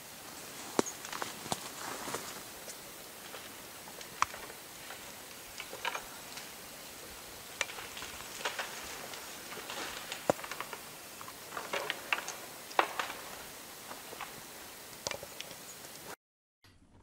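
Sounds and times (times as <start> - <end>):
faint steady hiss: 0.0 - 16.2
twigs snapping: 0.3 - 15.6.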